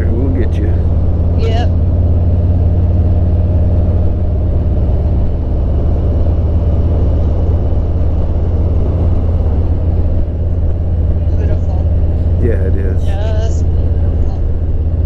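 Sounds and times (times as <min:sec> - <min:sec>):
motorcycle engine cruising: 0:00.0 - 0:15.0
road noise: 0:00.0 - 0:15.0
wind: 0:00.0 - 0:15.0.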